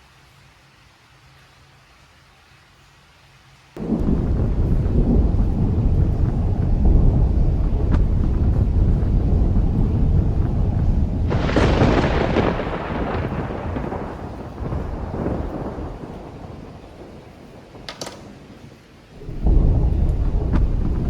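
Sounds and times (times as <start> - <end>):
loud low thunder rumble: 3.8 - 21.0
thunder crack and rumble: 3.8 - 21.0.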